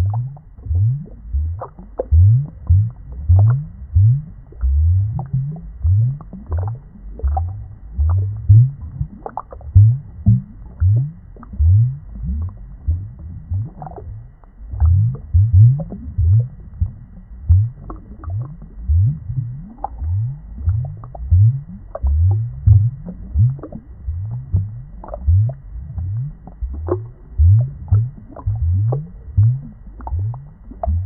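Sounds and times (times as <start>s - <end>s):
underwater gurgling and bubbling: 0.0s - 31.0s.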